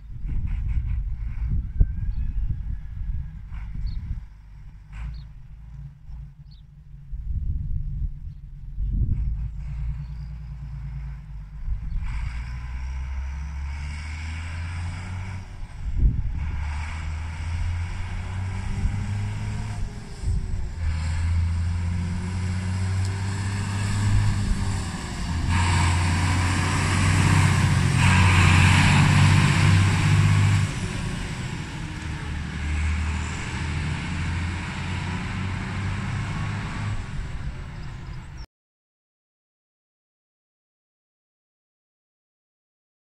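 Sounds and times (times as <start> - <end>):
tractor diesel engine passing: 0.0 - 38.5.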